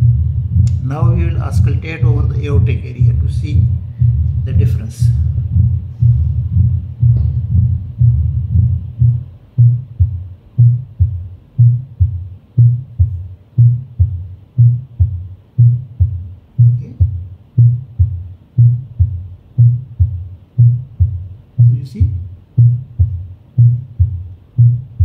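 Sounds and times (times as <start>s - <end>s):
heartbeat sounds: 0.0s - 25.0s.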